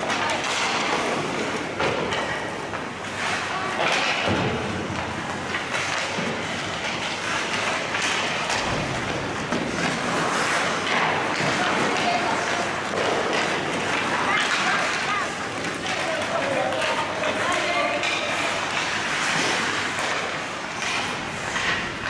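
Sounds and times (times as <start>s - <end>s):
hockey sticks and puck knocking: 0.0s - 22.0s
skate blades scraping ice: 0.0s - 22.0s.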